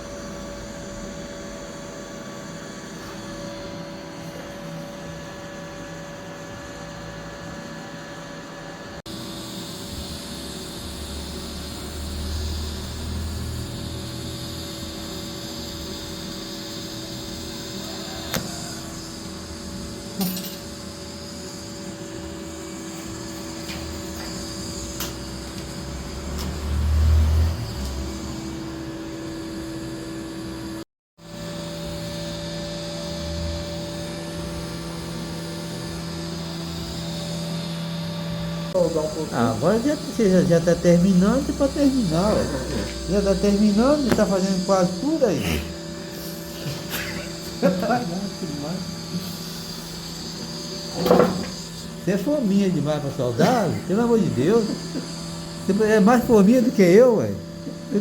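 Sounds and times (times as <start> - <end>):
welding arc hum and hiss: 0.0 - 58.0.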